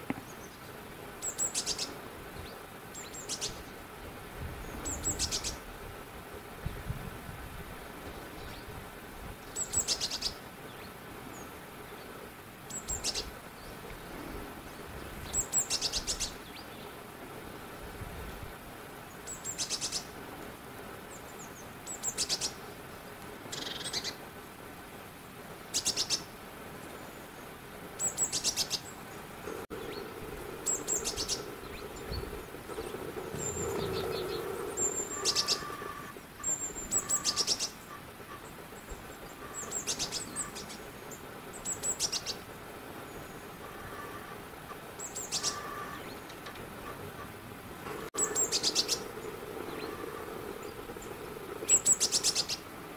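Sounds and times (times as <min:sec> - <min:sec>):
small birds chirping: 0:00.0 - 0:05.7, 0:09.4 - 0:17.1, 0:19.0 - 0:20.2, 0:21.0 - 0:24.6, 0:25.6 - 0:52.9.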